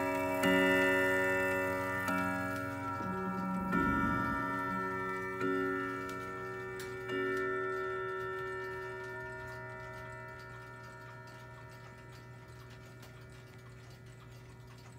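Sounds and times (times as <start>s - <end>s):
clock chime stroke: 0.0s - 14.9s
pendulum clock ticking: 0.0s - 14.9s.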